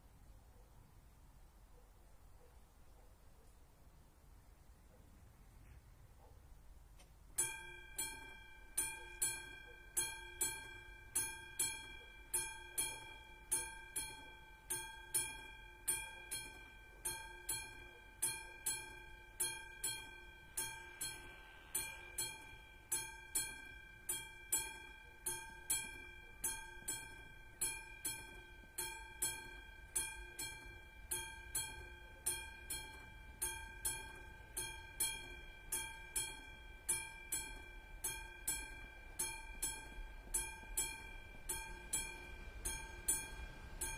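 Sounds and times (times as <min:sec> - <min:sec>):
level crossing bell ringing: 0:07.4 - 0:43.9.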